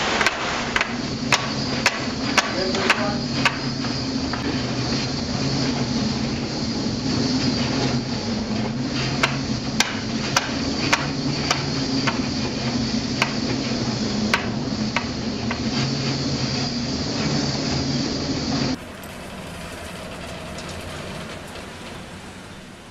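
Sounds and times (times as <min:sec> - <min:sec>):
machinery drone with low hum: 0:00.0 - 0:22.9.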